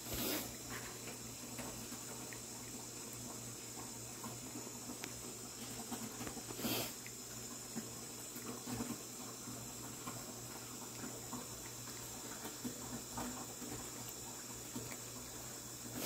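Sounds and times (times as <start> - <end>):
cat eating wet food: 0.0 - 16.0.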